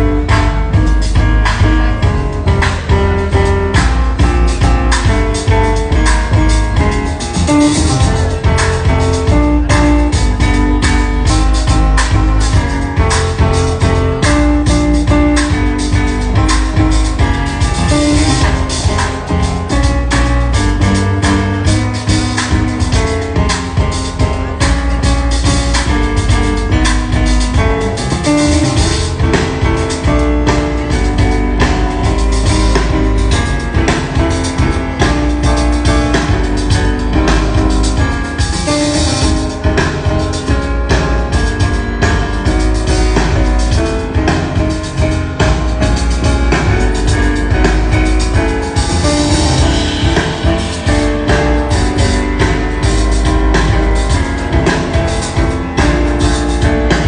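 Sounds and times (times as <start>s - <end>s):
cymbals: 0.0s - 57.0s
double bass: 0.0s - 57.0s
drum kit: 0.0s - 57.0s
piano: 0.0s - 57.0s.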